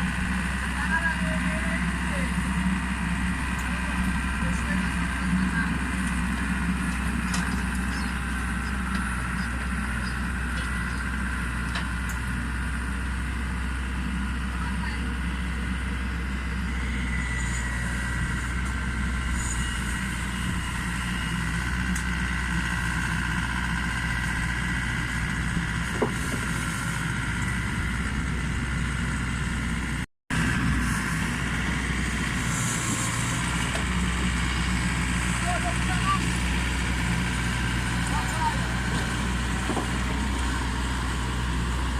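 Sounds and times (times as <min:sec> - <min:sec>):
combine harvester diesel engine running: 0:00.0 - 0:41.9.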